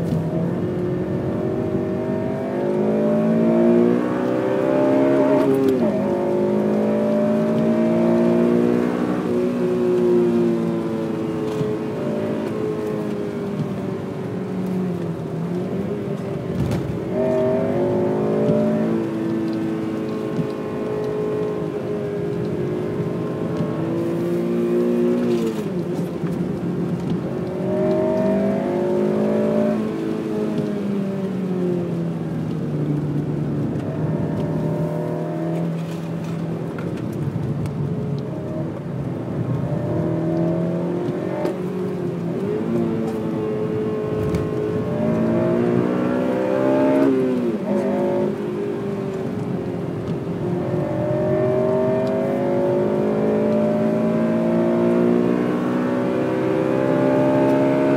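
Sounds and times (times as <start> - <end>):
car engine revving hard: 0.0 - 13.6, 14.3 - 25.9, 26.8 - 32.0, 38.1 - 57.9.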